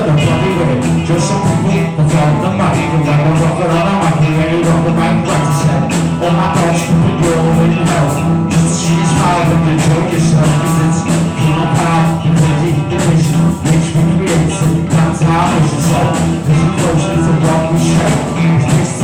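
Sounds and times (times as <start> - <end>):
held bass note: 0.0 - 19.0
rock band playing: 0.0 - 19.0
steady drum beat: 0.0 - 19.0.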